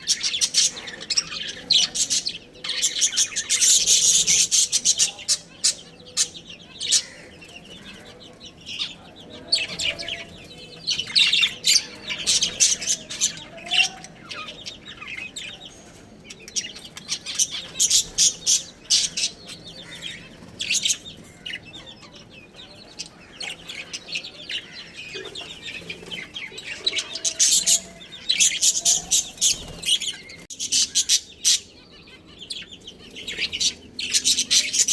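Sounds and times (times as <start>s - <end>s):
budgerigars chirping: 0.0s - 34.9s.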